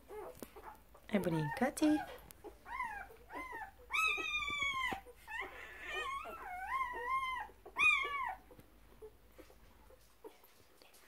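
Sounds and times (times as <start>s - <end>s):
dog whining: 0.0s - 9.6s.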